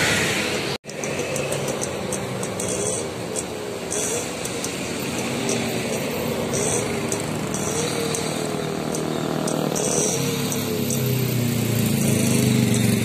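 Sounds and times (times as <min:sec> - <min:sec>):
motorcycles: 0:00.0 - 0:13.0
steady road noise: 0:00.0 - 0:13.0.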